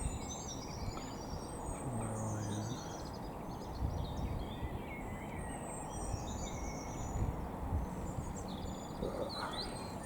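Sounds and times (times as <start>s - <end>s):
small birds chirping: 0.0s - 7.3s, 7.9s - 10.0s.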